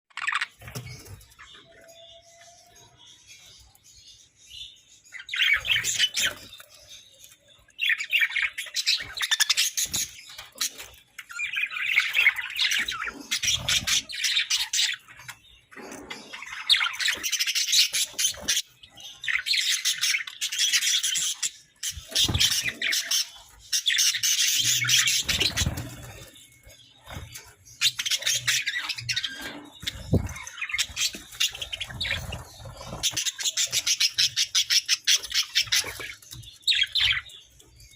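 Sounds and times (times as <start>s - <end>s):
budgerigars chirping and squawking: 0.1s - 37.9s.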